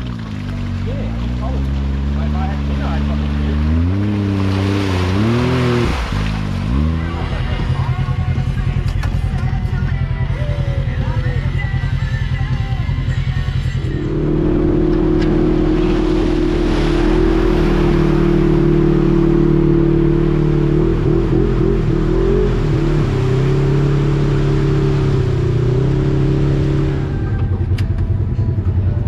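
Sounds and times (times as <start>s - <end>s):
off-road vehicle engine revving: 0.0s - 28.7s.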